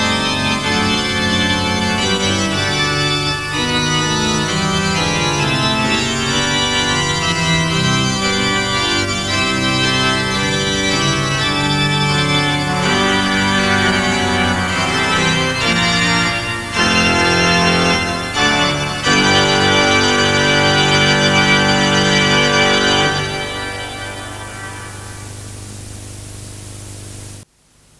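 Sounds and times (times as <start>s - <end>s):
organ playing held chords: 0.0s - 27.0s.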